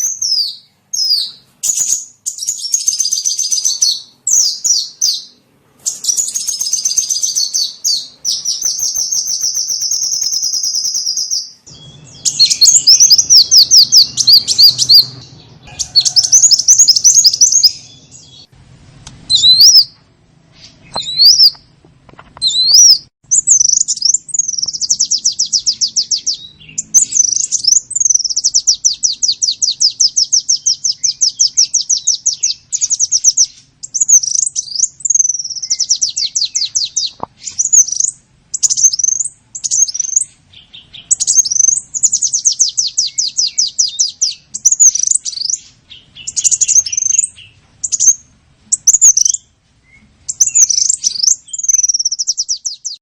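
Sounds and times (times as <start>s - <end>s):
songbird chirps and trills: 0.0s - 53.0s.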